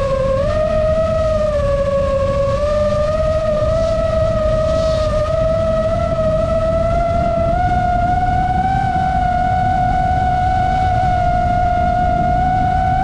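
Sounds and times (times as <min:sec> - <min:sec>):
drone motors whining: 0:00.0 - 0:13.0
wind rush on microphone: 0:00.0 - 0:13.0.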